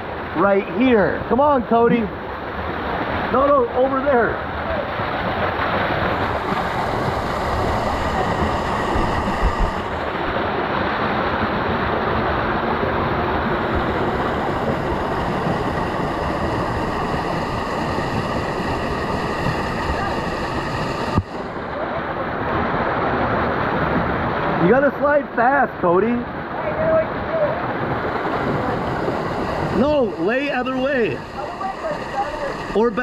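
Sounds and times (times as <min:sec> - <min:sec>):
water rushing down slide: 0:00.1 - 0:33.0.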